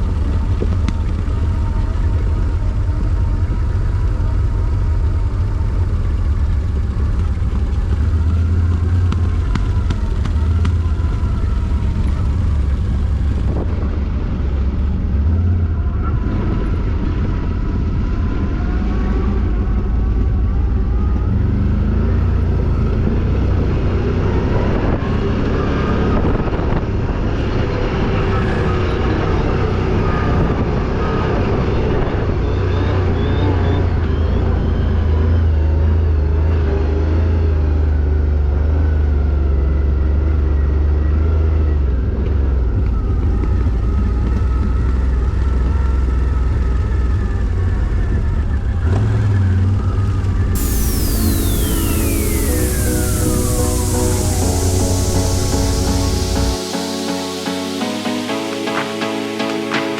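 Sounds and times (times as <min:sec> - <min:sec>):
atv engine running: 0:00.0 - 0:50.5.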